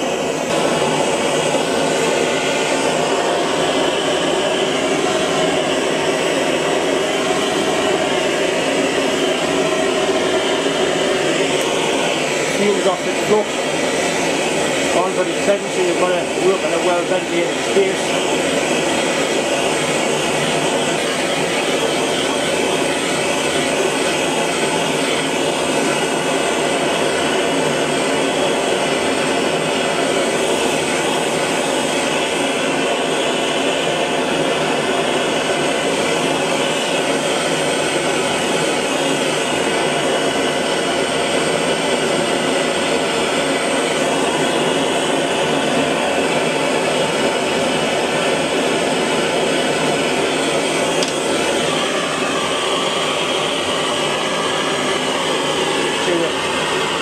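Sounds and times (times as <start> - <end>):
gas blowtorch burning: 0.0 - 57.0.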